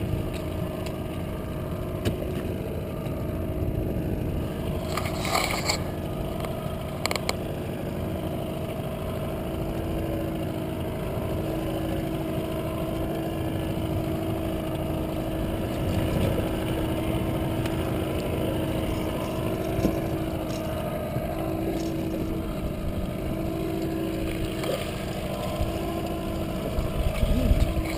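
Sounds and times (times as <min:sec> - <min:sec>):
outboard motor running: 0:00.0 - 0:27.9.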